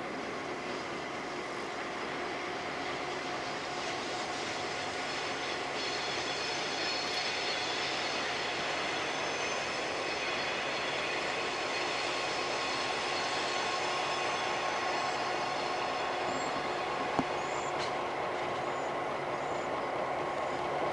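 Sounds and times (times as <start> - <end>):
diesel locomotive engines running: 0.0 - 20.9.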